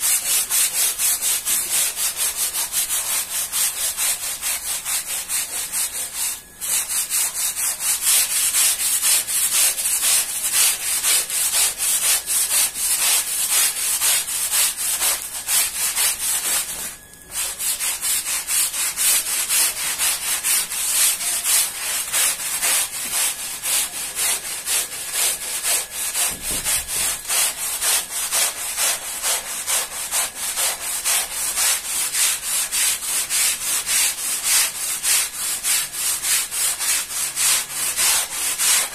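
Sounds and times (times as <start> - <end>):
stiff brush scrubbing: 0.0 - 38.9
scrubbing wet rug with pad: 6.3 - 38.9.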